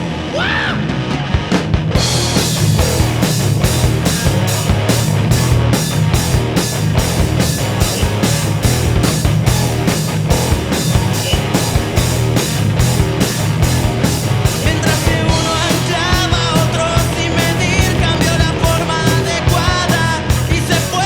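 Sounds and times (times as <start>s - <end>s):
live rock band playing: 0.0s - 21.0s
drum kit beat: 1.4s - 21.0s.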